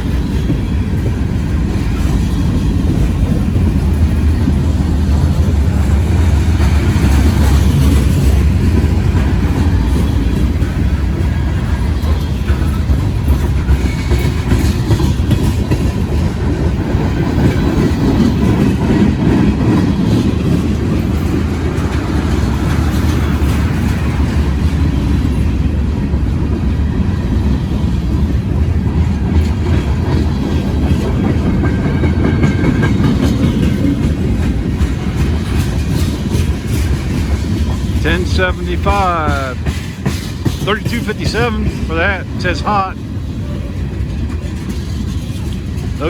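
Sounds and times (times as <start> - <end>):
train wheels clattering on rails: 0.0 - 46.0.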